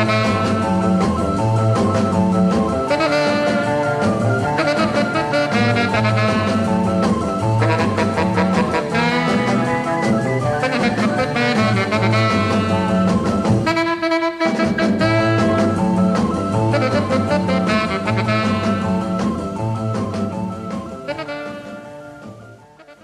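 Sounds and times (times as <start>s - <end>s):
tenor saxophone melody: 0.0s - 1.2s, 2.8s - 19.4s, 20.9s - 23.0s
instrumental rock and roll music: 0.0s - 23.0s.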